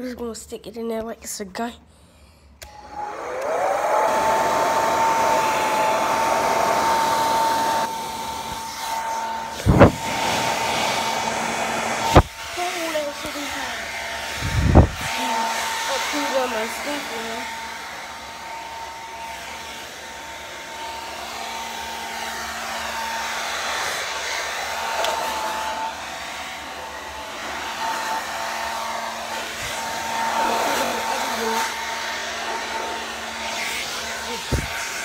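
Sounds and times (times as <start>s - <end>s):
hair dryer running: 2.6s - 35.0s.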